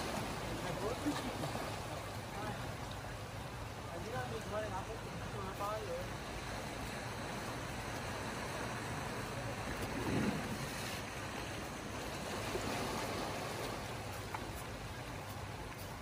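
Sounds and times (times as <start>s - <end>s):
sea surf on rocky shore: 0.0s - 16.0s.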